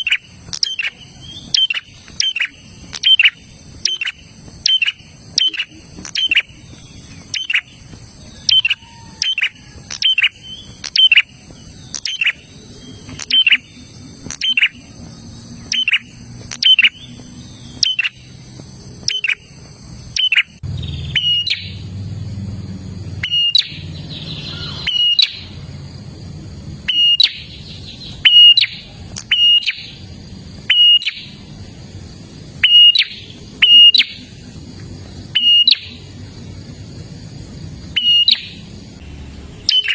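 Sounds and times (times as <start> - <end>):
bird calling with sharp high notes: 0.0 - 21.9, 23.2 - 25.6, 26.8 - 31.5, 32.6 - 34.4, 35.2 - 36.1, 37.8 - 39.9
low hum: 0.0 - 39.9.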